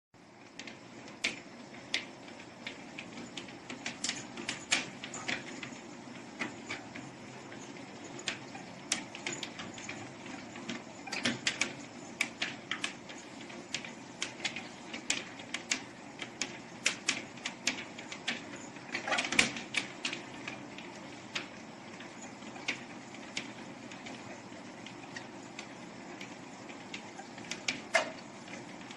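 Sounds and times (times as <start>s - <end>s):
paws and claws tapping on treadmill: 0.2s - 28.9s
treadmill humming: 0.2s - 28.9s.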